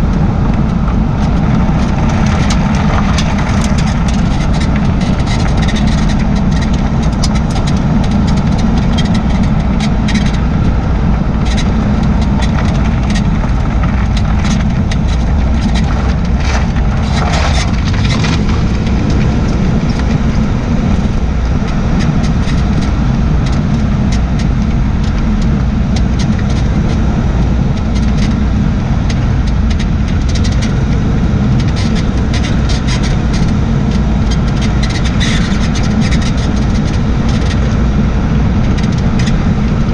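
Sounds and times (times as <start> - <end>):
car road noise: 0.0 - 39.9
suspension squeaks and creaks: 0.1 - 39.9.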